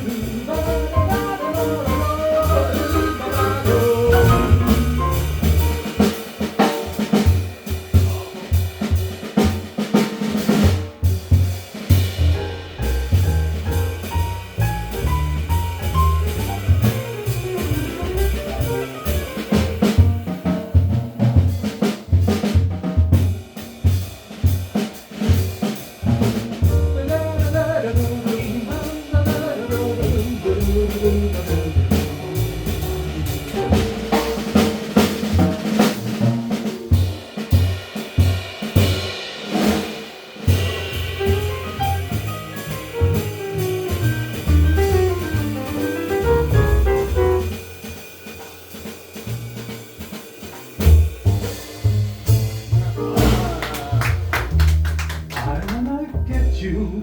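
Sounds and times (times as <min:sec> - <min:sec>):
drum kit snare and bass drum: 0:00.0 - 0:57.0
jazz band playing swing: 0:00.0 - 0:57.0.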